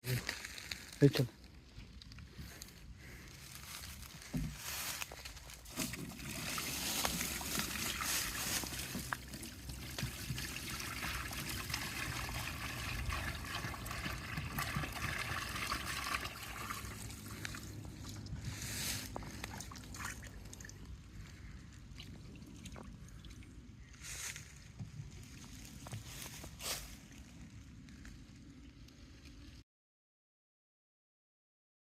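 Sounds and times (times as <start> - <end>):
water trickling and sloshing: 3.3 - 29.6.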